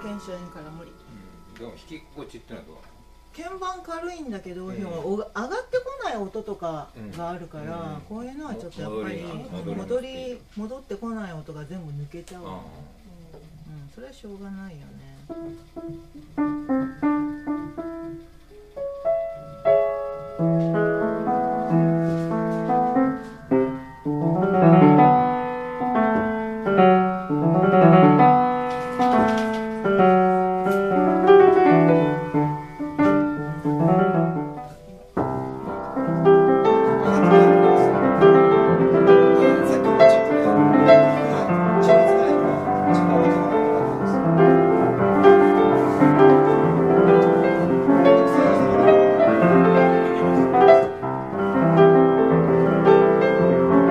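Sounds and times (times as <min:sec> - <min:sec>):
upright piano playing: 0:00.0 - 0:06.4, 0:07.4 - 0:10.4, 0:15.2 - 0:53.9.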